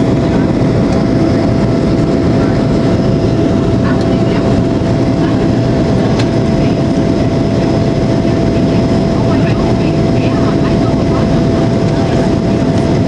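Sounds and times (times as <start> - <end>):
airplane cabin engine rumble: 0.0 - 13.0
steady hum: 0.0 - 13.0.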